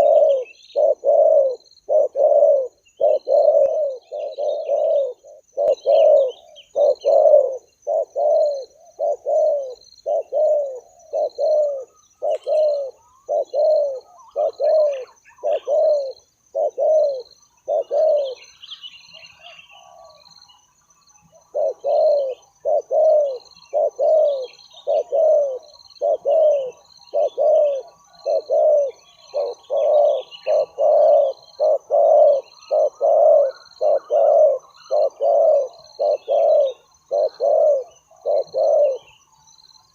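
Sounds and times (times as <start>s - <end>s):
doves cooing: 0.0s - 20.4s, 21.2s - 39.3s.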